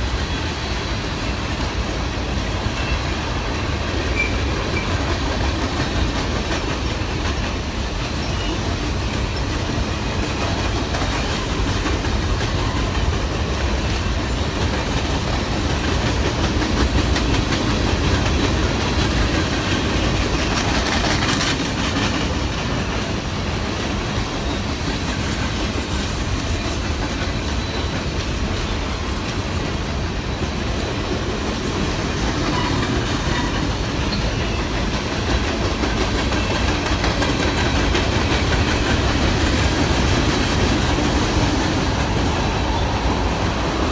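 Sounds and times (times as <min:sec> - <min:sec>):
train cars rolling on rails: 0:00.0 - 0:43.9
wheels clicking over rail joints: 0:00.0 - 0:43.9.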